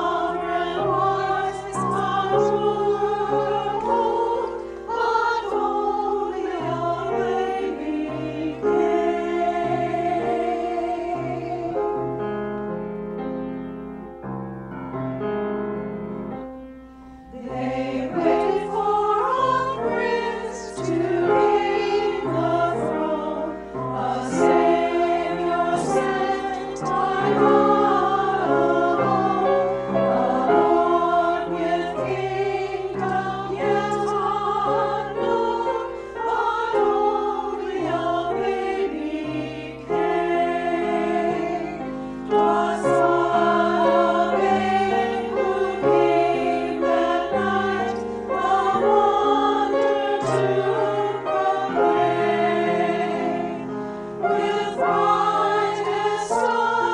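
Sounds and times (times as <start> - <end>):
choir singing: 0.0 - 12.3, 17.3 - 56.9
piano accompaniment: 0.0 - 56.9.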